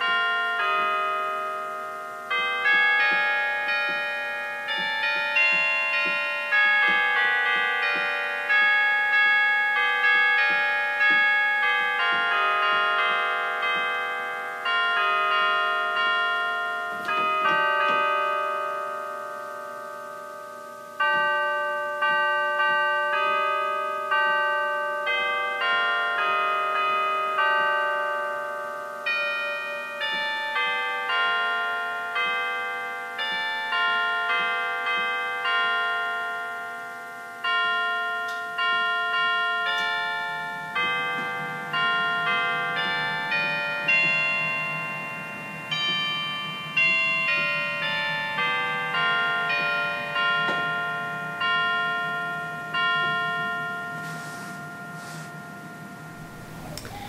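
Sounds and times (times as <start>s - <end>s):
slow bell-like instrumental music: 0.0s - 57.0s.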